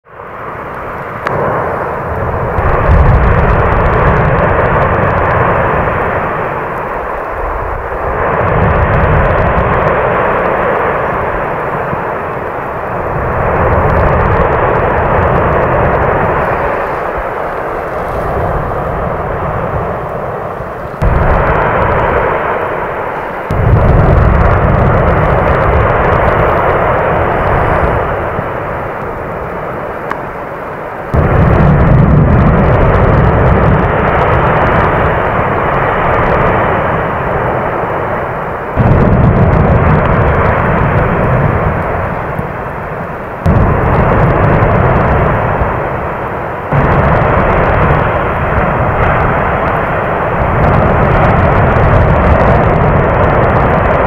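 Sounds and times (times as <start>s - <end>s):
volcano deep rumble and rushing: 0.0s - 54.0s.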